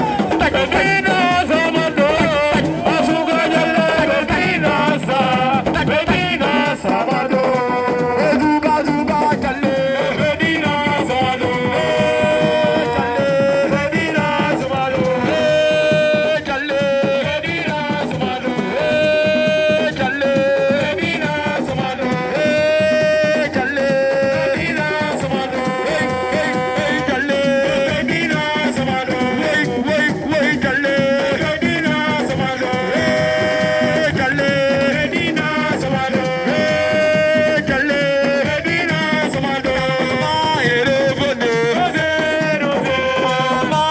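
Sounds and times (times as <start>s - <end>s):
quick drum beat: 0.0s - 43.9s.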